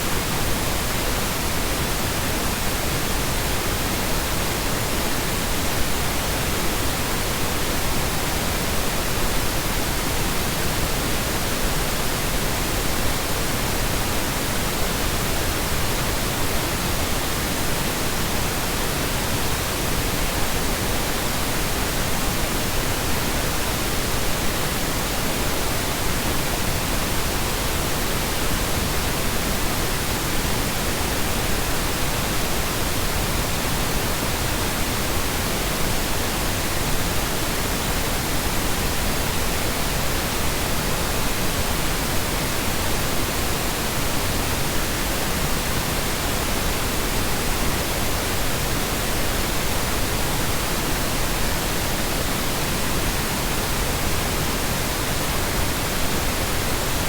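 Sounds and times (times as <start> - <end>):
steady brownian noise hiss: 0.0 - 57.0.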